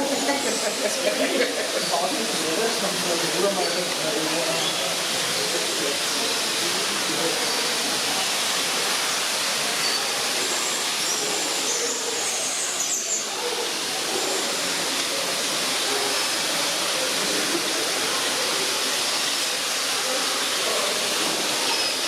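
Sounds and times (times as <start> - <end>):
murmur of distant voices: 0.0 - 22.0
steady rushing hiss: 0.0 - 22.0.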